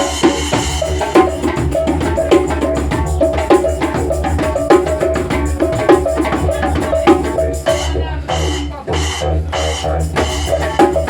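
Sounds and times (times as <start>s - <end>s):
didgeridoo drone: 0.0s - 11.0s
drums: 0.0s - 11.0s
wood block percussion hits: 0.0s - 11.0s.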